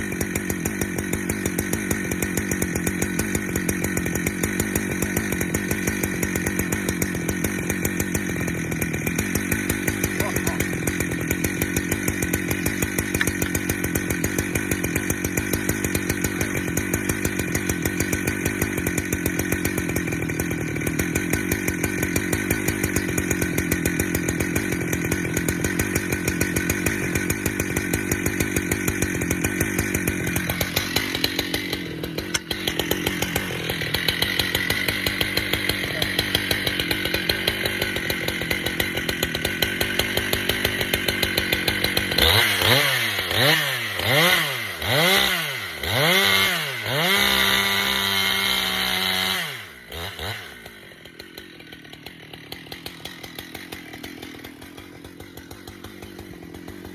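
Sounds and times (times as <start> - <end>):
chainsaw cutting logs: 0.0 - 56.9.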